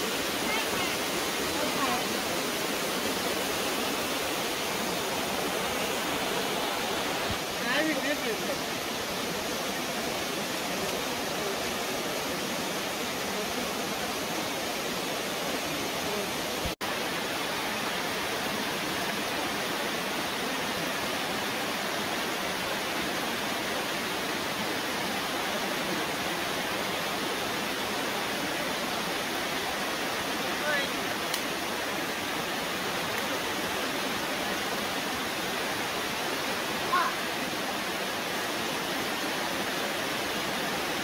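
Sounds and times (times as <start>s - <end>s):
waterfall rushing into pool: 0.0s - 41.0s.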